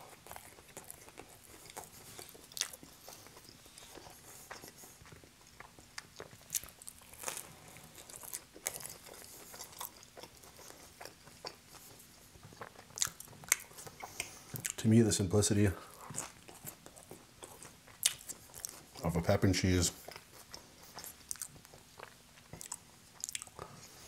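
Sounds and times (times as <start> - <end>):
chewing and biting pizza: 0.0 - 14.8, 15.8 - 24.0.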